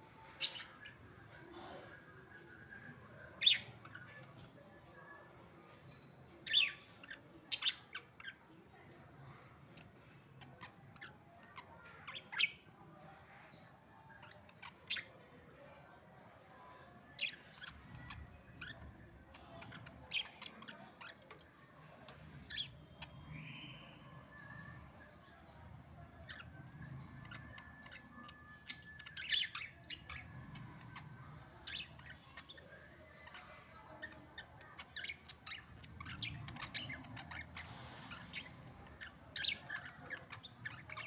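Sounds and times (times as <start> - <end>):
budgerigars chirping and chattering: 0.2 - 4.7, 5.3 - 15.7, 16.6 - 41.0.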